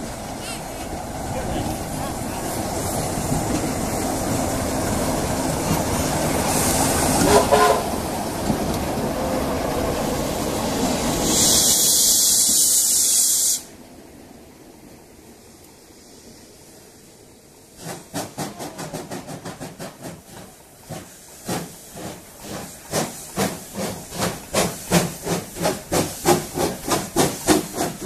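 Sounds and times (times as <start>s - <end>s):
steam locomotive hiss: 0.0s - 8.4s, 9.0s - 13.8s, 15.8s - 28.0s
diesel locomotive rumbling past: 0.0s - 28.0s.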